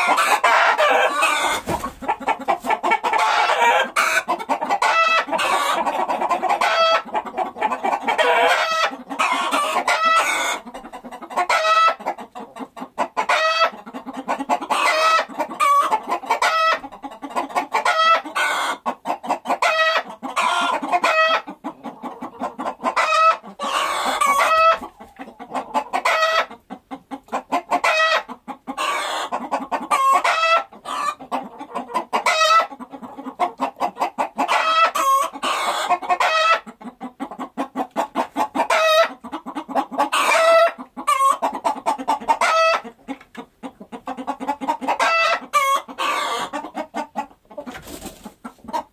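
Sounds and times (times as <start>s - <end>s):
chickens clucking: 0.0s - 48.9s.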